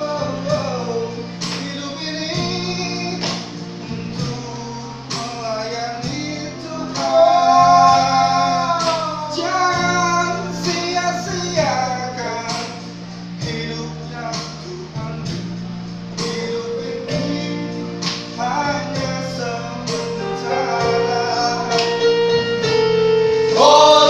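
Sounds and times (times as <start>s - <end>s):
men singing together: 0.0s - 22.1s, 23.4s - 24.0s
keyboard accompaniment: 0.0s - 24.0s.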